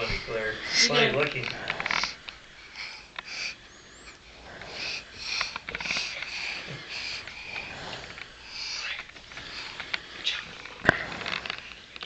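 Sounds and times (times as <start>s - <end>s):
child sniffing and snorting: 1.7s - 11.8s.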